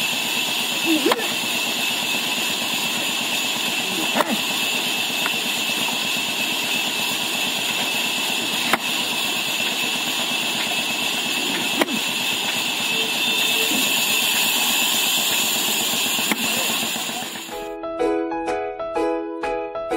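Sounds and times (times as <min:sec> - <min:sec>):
machine-like drone: 0:00.0 - 0:17.7.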